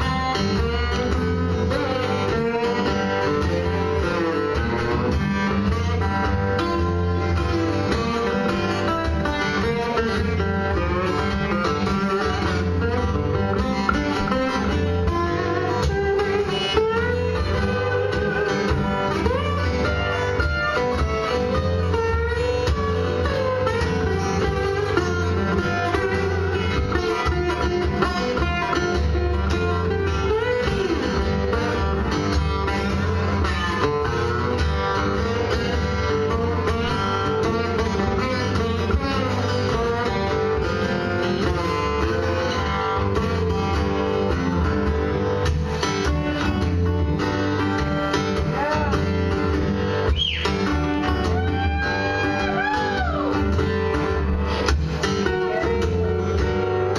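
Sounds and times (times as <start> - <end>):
acoustic guitars playing: 0.0 - 56.9.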